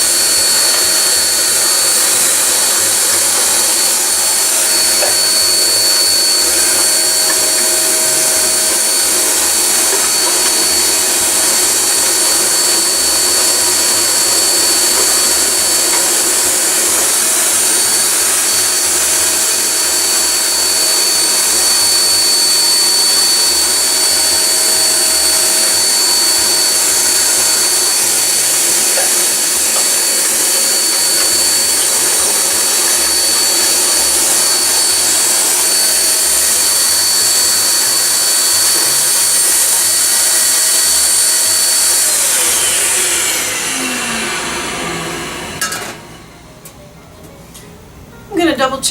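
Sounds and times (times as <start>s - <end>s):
vacuum cleaner running: 0.0s - 48.7s.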